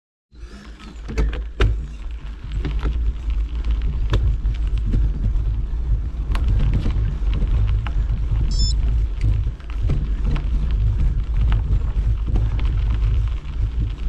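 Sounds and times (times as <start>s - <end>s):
bike tyre noise on dirt: 0.4s - 14.0s
wind rumble on microphone: 1.0s - 14.0s.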